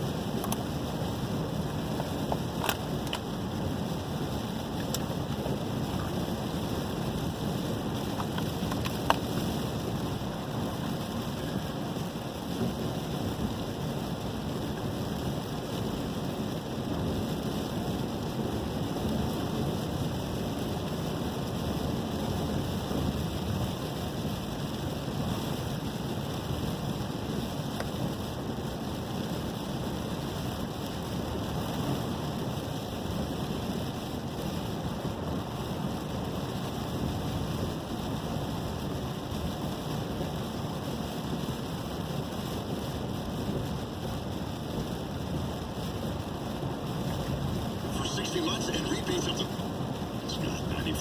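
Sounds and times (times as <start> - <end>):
gusty wind: 0.0 - 51.0
light rain: 0.0 - 51.0
wind rumbling on microphone: 0.0 - 51.0.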